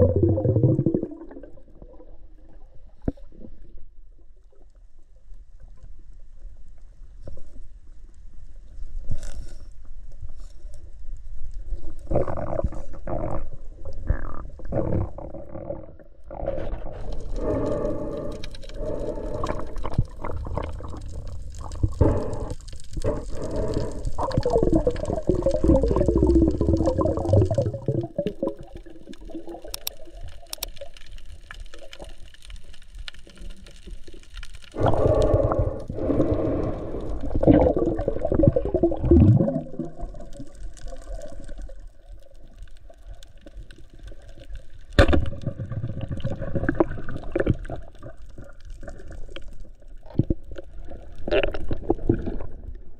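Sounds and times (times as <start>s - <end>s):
water swishing underwater: 0.0s - 52.9s.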